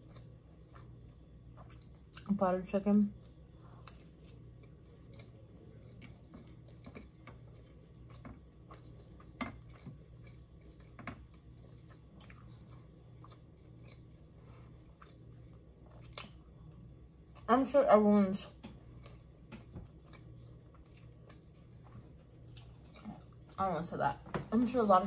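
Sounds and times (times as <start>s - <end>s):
person chewing food: 0.0s - 2.3s, 3.2s - 17.5s, 18.6s - 23.6s.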